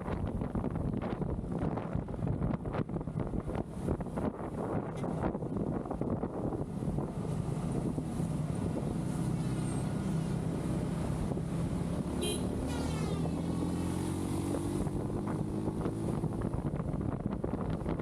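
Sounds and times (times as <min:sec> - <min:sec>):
wind rushing over microphone: 0:00.0 - 0:12.2, 0:13.0 - 0:18.0.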